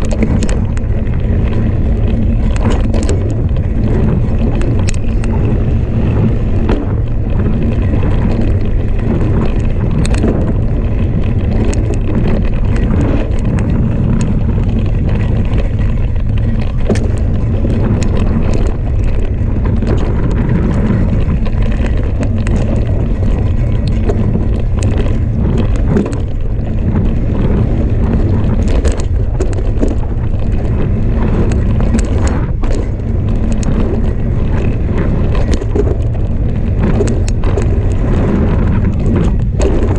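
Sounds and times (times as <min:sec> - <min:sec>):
bike rattling over bumps: 0:00.0 - 0:39.9
tyres rumbling on dirt: 0:00.0 - 0:39.9
wind rushing over microphone: 0:00.0 - 0:39.9.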